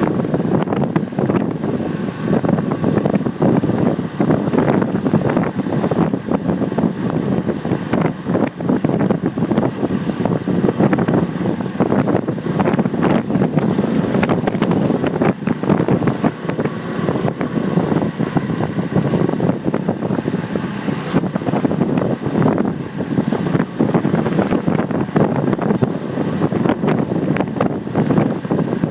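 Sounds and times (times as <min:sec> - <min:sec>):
road and traffic noise: 0:00.0 - 0:28.9
wind buffeting microphone: 0:00.0 - 0:28.9.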